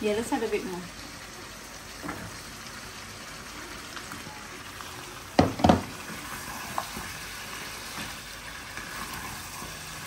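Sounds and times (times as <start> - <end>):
curry sizzling in a pot: 0.0 - 10.0.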